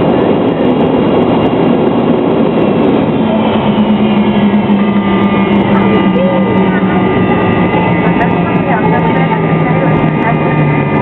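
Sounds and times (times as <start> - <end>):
airliner rolling on runway: 0.0 - 11.0
steady engine hum: 0.0 - 11.0.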